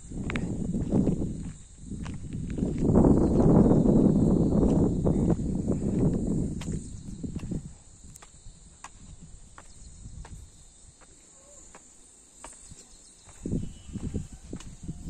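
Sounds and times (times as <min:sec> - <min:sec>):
footsteps on stone steps: 0:00.1 - 0:03.6, 0:04.6 - 0:15.0.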